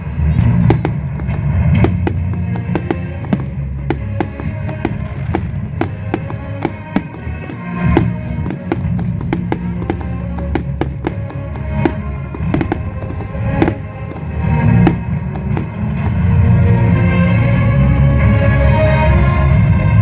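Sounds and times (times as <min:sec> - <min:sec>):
fireworks bursting and crackling: 0:00.0 - 0:16.9
loud music: 0:00.0 - 0:20.0.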